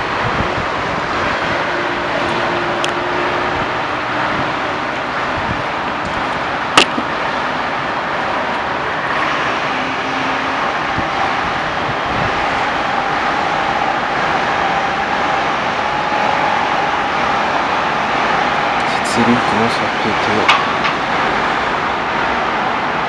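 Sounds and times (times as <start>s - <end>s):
distant city traffic: 0.0s - 23.0s.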